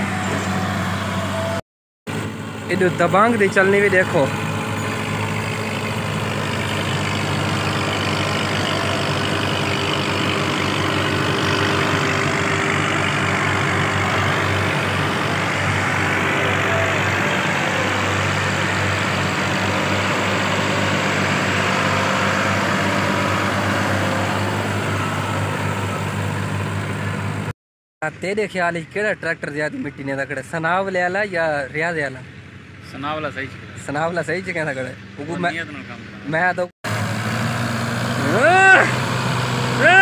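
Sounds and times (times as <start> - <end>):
tractor diesel engine under load: 0.0 - 27.5, 31.4 - 40.0.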